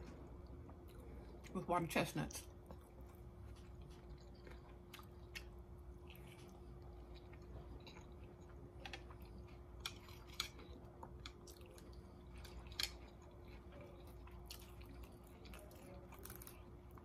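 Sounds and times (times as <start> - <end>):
person chewing: 0.0 - 1.5, 2.5 - 17.0
steady low hum: 0.0 - 17.0.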